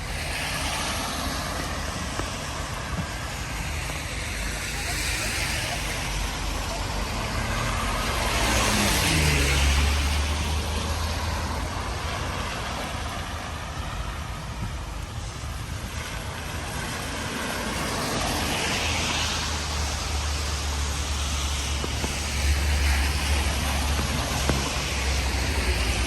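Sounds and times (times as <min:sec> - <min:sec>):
car passing on wet street: 0:00.0 - 0:26.0
rain hiss: 0:00.0 - 0:26.0
vehicle approaching: 0:00.0 - 0:26.0.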